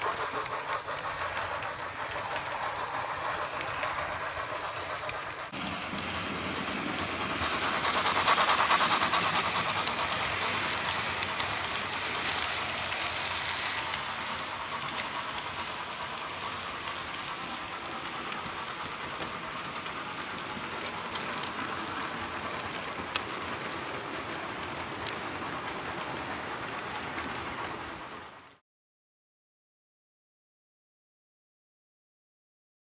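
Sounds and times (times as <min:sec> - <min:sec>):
model train wheels on track: 0:00.0 - 0:28.6.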